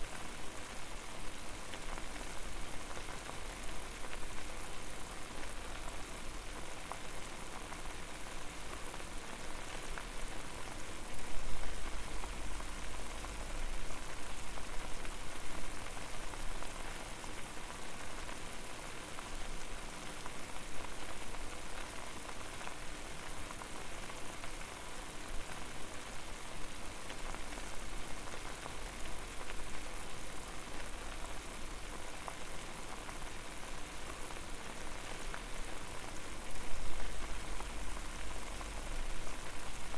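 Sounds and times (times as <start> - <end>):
water boiling and bubbling: 0.0 - 39.9.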